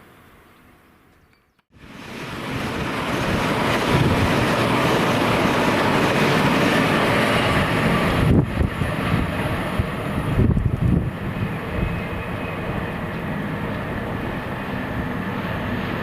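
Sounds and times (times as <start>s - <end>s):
freight train passing: 1.7s - 16.0s.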